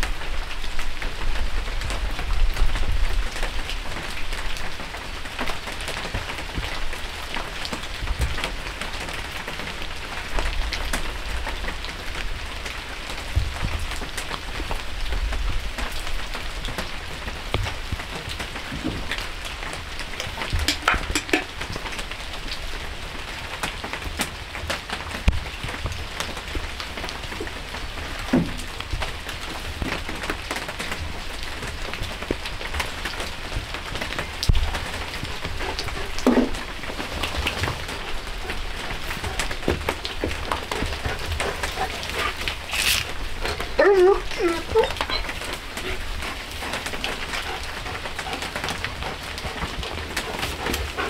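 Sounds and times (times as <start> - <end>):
raindrops ticking on surfaces: 0.0 - 51.0
steady rain falling: 0.0 - 51.0.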